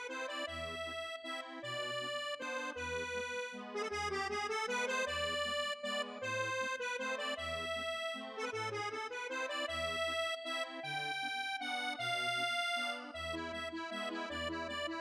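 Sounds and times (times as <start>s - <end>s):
bouncy instrumental music: 0.0s - 15.0s.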